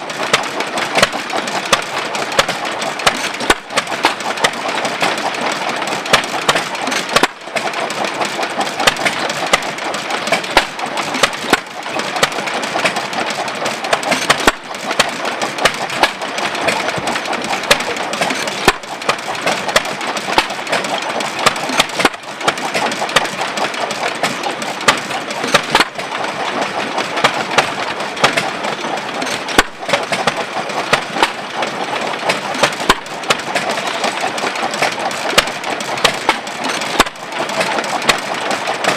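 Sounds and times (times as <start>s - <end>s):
gas engine clattering: 0.0s - 38.9s
sharp engine knocks: 0.1s - 38.9s.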